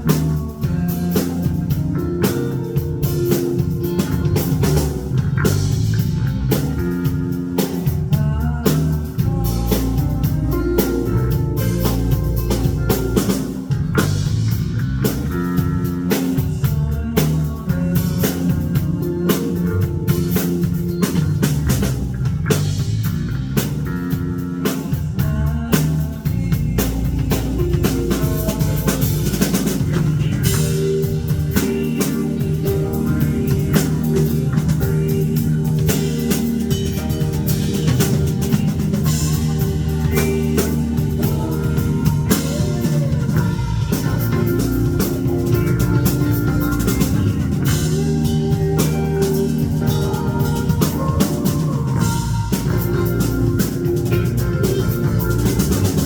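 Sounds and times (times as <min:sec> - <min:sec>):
bass guitar: 0:00.0 - 0:56.0
drum kit with snare and cymbals: 0:00.0 - 0:56.0
electric guitar: 0:00.0 - 0:56.0.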